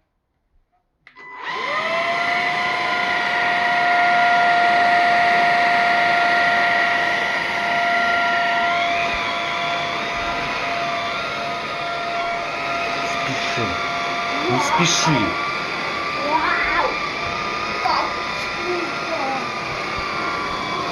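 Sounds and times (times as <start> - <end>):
handheld vacuum motor whining: 1.1 - 20.9.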